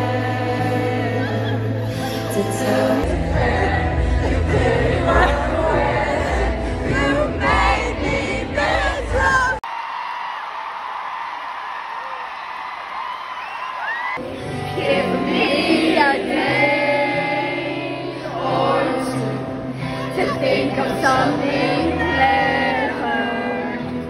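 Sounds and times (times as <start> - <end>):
woman singing into a microphone: 0.0 - 9.6, 14.2 - 24.0.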